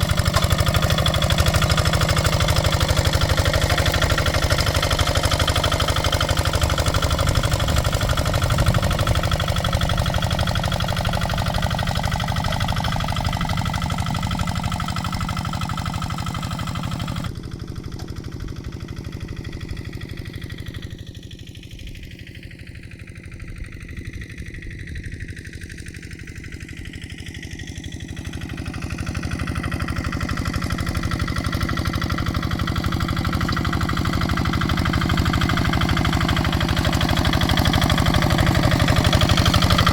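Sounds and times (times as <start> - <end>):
diesel engine running: 0.0 - 22.0, 25.6 - 39.9.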